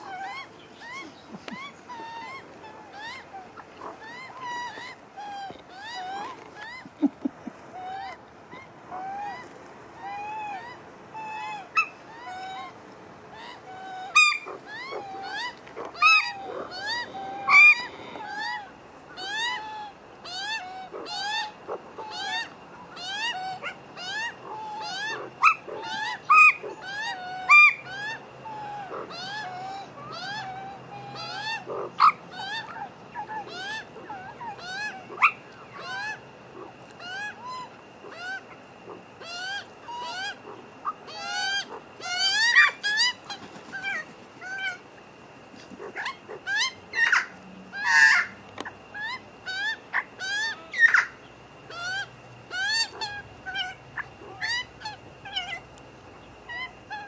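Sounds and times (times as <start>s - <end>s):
magpies calling: 0.0s - 57.0s.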